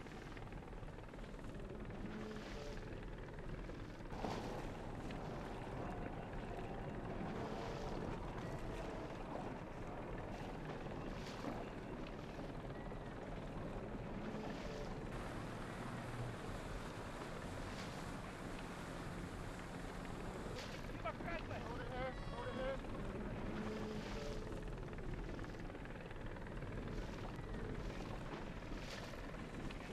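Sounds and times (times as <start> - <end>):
engine drone: 0.0 - 29.9
water rushing around boat: 0.0 - 29.9.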